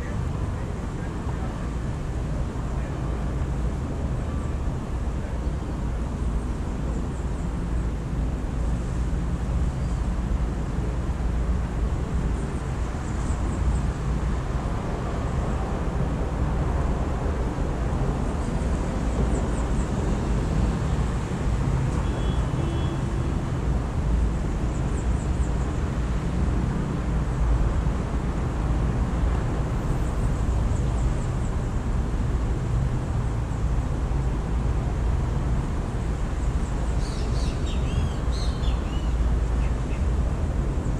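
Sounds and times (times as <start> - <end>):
traffic rumble: 0.0 - 40.9.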